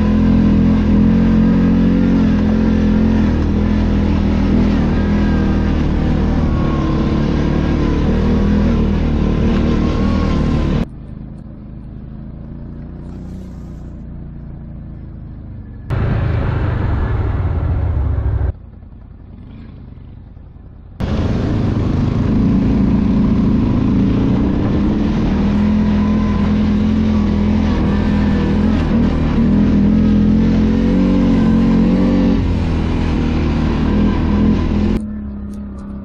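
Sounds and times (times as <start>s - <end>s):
atv engines running: 0.0s - 36.0s.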